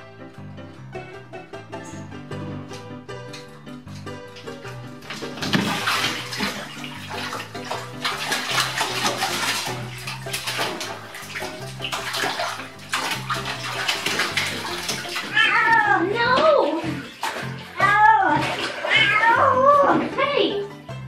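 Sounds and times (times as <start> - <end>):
bathwater splashing: 1.7 - 20.7.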